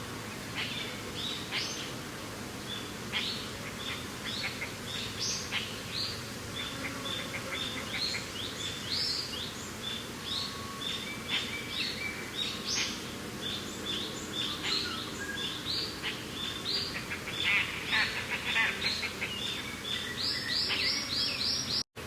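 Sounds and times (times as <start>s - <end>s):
wind hiss: 0.0s - 18.3s
small birds chirping: 2.6s - 21.8s.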